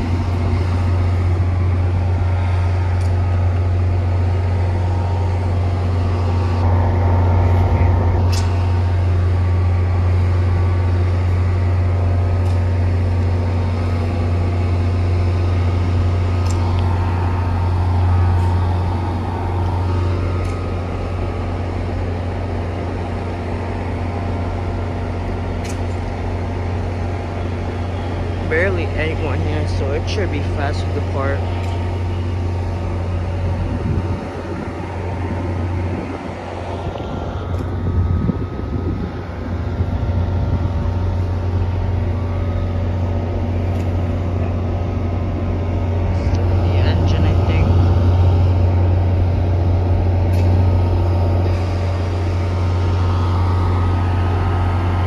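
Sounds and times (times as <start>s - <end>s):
train idling low hum: 0.0s - 55.0s.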